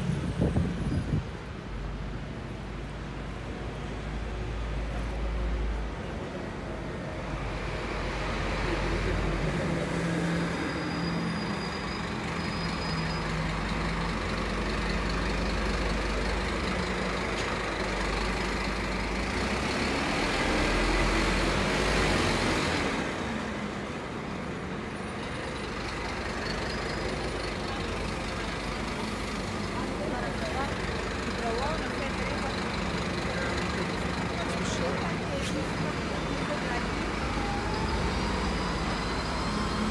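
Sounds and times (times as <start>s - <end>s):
street traffic: 0.0s - 39.9s
bus engine running: 4.5s - 39.9s.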